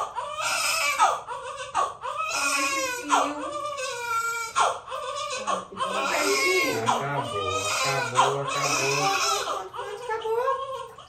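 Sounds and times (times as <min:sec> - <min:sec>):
baby crying: 0:00.0 - 0:11.0.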